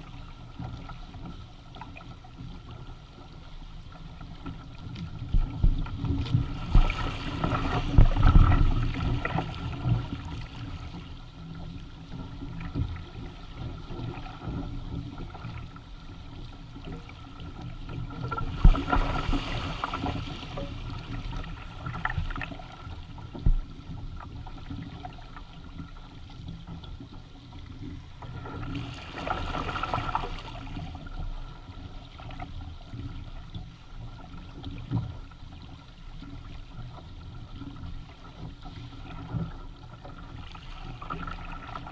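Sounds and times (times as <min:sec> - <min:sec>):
low wind rumble on microphone: 0:00.0 - 0:41.9
water rushing along a hull: 0:00.0 - 0:41.9.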